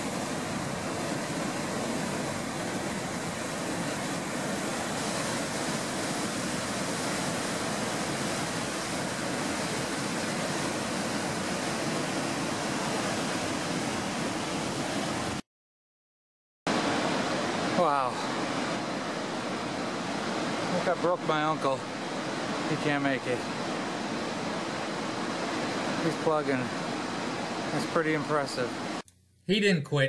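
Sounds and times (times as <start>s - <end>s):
rapids rushing over boulders: 0.0s - 15.4s, 16.7s - 29.0s.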